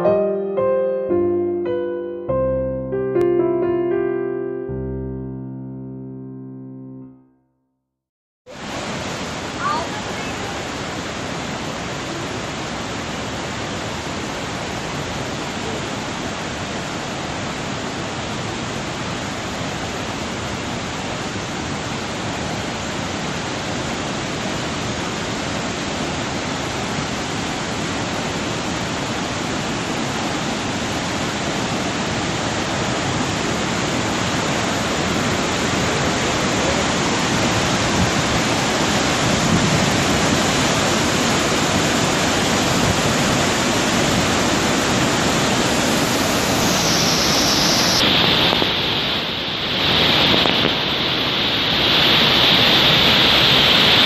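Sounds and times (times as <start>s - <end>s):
waterfall rushing: 8.5s - 54.0s.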